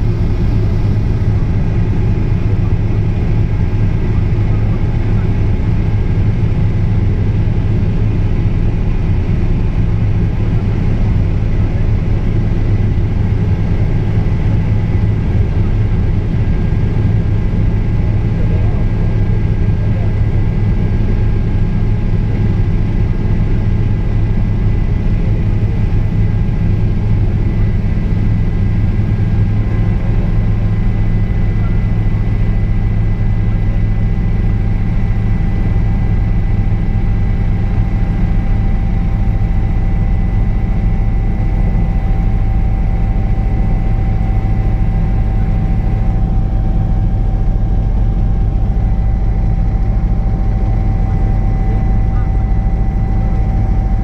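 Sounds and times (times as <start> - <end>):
helicopter rotor and engine drone: 0.0 - 54.0
high engine whine: 0.0 - 54.0.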